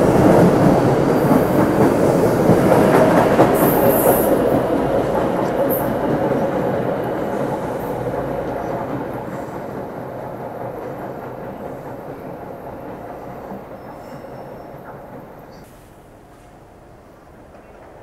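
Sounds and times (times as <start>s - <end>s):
train wheels running on rails: 0.0s - 18.0s.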